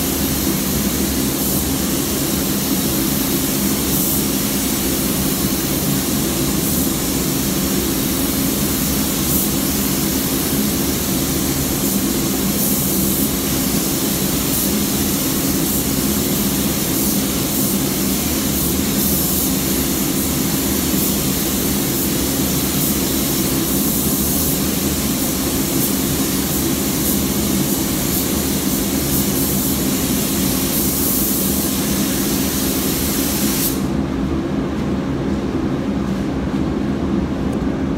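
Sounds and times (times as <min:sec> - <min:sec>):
spray gun hissing: 0:00.0 - 0:33.9
ventilation drone: 0:00.0 - 0:37.9.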